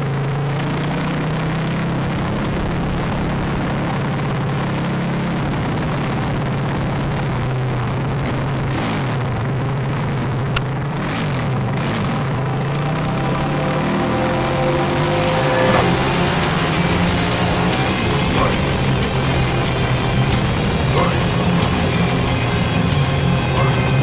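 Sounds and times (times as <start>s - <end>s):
minibike engine running: 0.0s - 24.0s.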